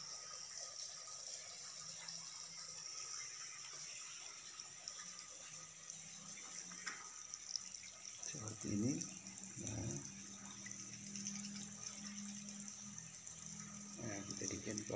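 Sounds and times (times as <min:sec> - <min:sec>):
water dripping into pool: 0:00.0 - 0:14.9.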